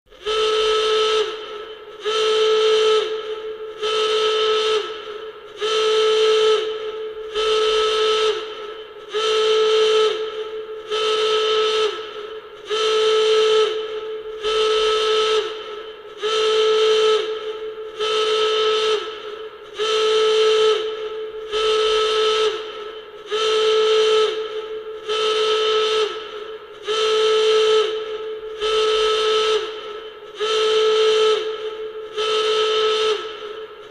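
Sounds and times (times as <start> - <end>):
alarm blasts: 0.2 - 33.9.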